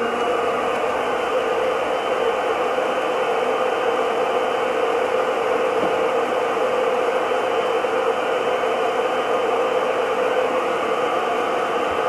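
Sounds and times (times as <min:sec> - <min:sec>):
blender whirring: 0:00.0 - 0:12.0.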